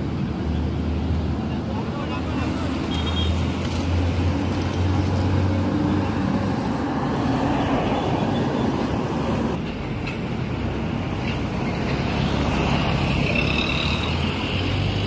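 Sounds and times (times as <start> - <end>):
steady traffic rumble: 0.0 - 15.0.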